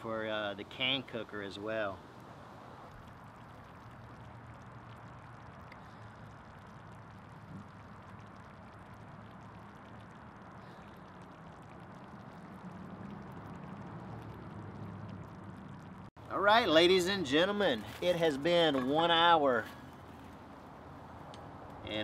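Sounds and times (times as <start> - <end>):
chili simmering in a pot: 0.0 - 22.0.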